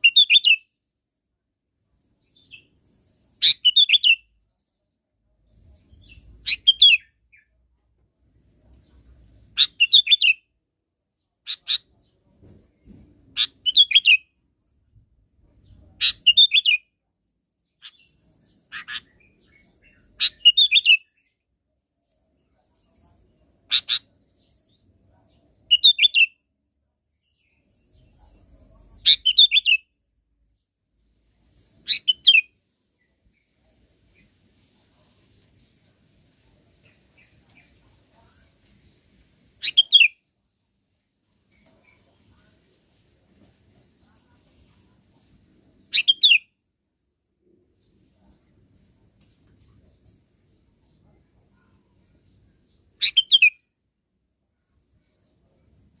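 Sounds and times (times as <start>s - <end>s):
bird chirping song: 0.0s - 1.3s, 1.9s - 39.0s, 39.6s - 40.2s, 43.4s - 46.6s, 47.4s - 53.7s.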